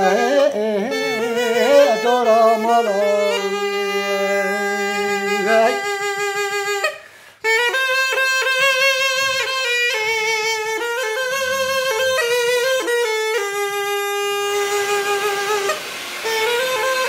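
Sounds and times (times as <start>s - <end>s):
solo folk melody: 0.0s - 17.0s.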